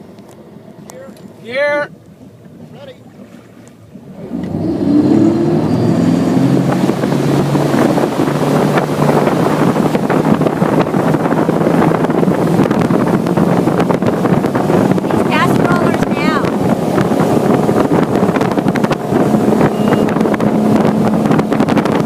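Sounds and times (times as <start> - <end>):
motorboat engine: 0.0 - 22.0
wind noise on microphone: 4.1 - 22.0.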